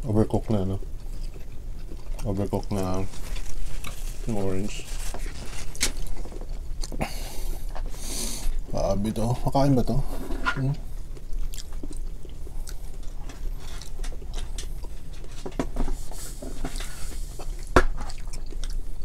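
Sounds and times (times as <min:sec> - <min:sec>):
chewing: 0:00.7 - 0:08.6, 0:11.0 - 0:19.0.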